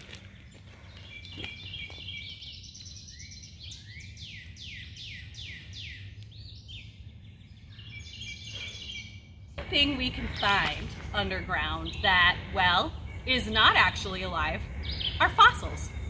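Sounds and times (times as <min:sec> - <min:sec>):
low background hum: 0:00.0 - 0:16.0
songbirds whistling and chirping: 0:00.0 - 0:16.0.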